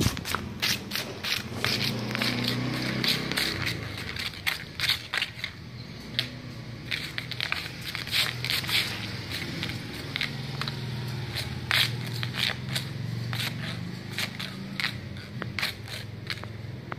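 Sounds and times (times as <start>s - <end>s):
dry leaves crackling on concrete: 0.0s - 16.9s.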